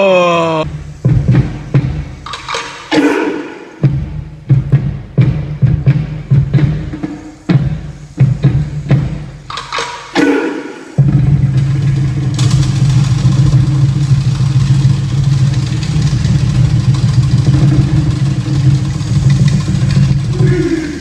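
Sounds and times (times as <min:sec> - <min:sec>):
drum roll: 0:00.6 - 0:21.0.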